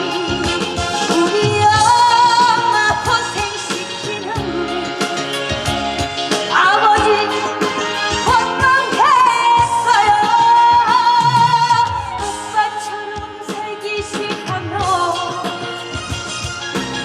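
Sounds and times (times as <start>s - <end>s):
person singing with vibrato: 0.0s - 15.9s
backing band playing: 0.0s - 17.0s.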